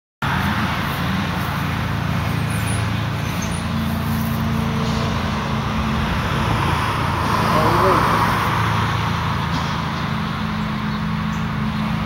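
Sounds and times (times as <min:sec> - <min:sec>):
car engine hum and tyre noise: 0:00.2 - 0:12.0.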